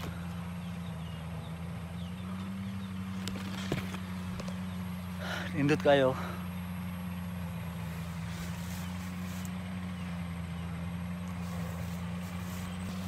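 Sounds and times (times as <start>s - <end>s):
threshing machine engine humming: 0.0s - 13.0s.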